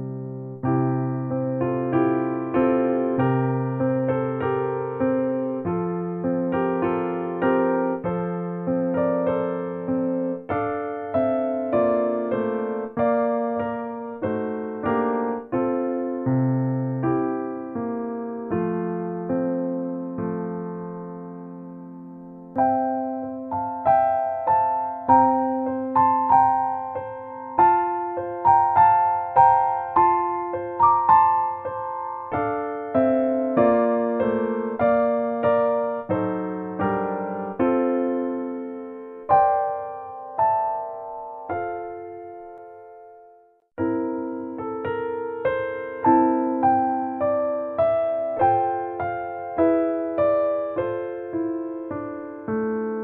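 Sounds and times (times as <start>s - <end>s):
slow calm piano music: 0.0s - 53.0s.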